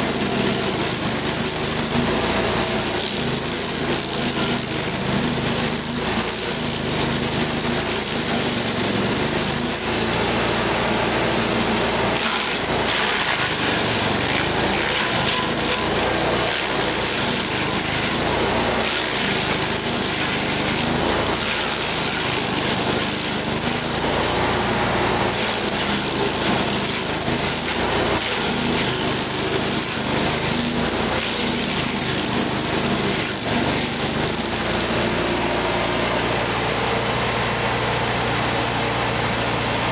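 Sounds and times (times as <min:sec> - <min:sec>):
cutter wheel chipping wood: 0:00.0 - 0:39.9
stump grinder engine drone: 0:00.0 - 0:39.9.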